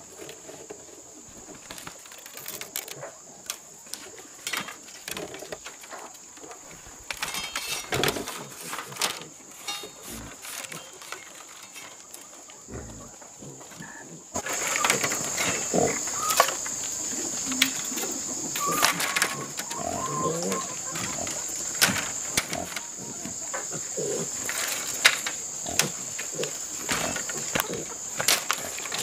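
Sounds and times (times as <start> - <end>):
leaf strips rustling and clicking: 0.0 - 29.0.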